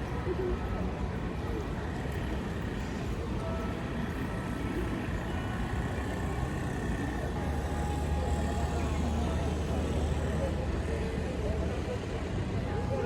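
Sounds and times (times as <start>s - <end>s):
street traffic rumbling: 0.0s - 13.0s.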